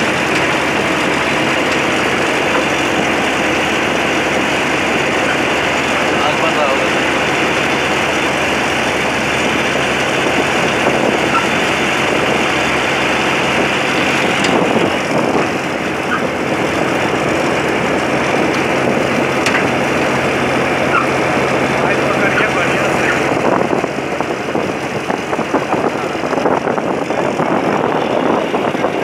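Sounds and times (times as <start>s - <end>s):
loud rushing noise: 0.0s - 29.0s
tractor engine hum: 0.0s - 29.0s.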